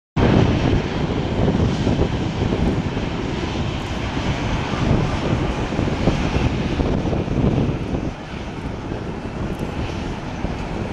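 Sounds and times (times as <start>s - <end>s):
jet engines rumbling: 0.2s - 10.9s.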